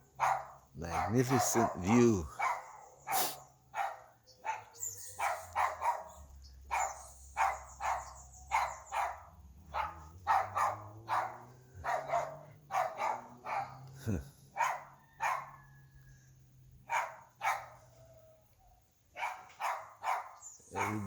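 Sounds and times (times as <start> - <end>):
dog barking: 0.1 - 15.8, 16.8 - 18.0, 19.1 - 21.0.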